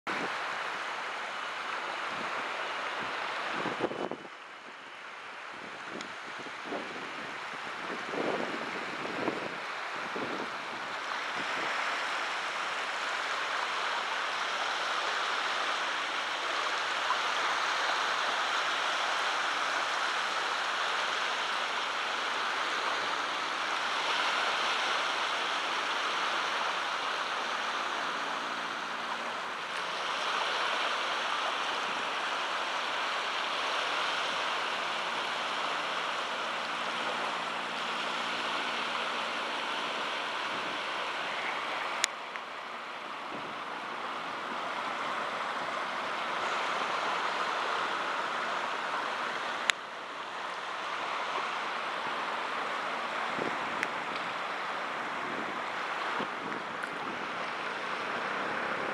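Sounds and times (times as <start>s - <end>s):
small waves lapping on beach: 0.1s - 58.9s.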